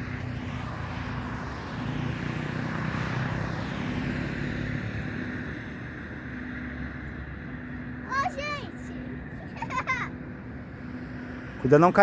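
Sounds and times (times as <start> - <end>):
engine hum: 0.0 - 12.0
vehicle passing by: 0.0 - 12.0.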